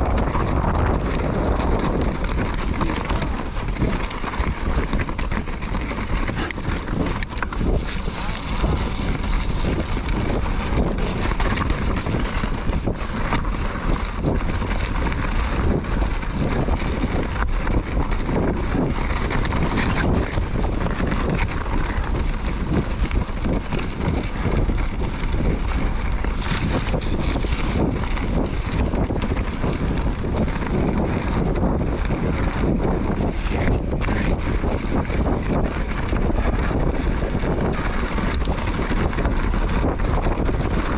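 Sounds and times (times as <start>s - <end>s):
bike rattling: 0.0s - 40.9s
tyres rolling over stones: 0.0s - 40.9s
wind noise on microphone: 0.0s - 40.9s.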